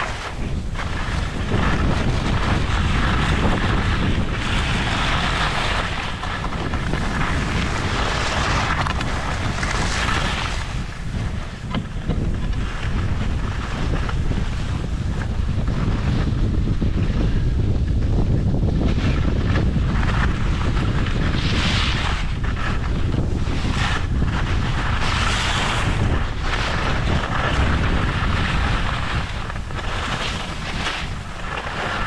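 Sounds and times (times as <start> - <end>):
skis scraping over hard snow: 0.0 - 32.0
wind buffeting microphone: 0.0 - 32.0.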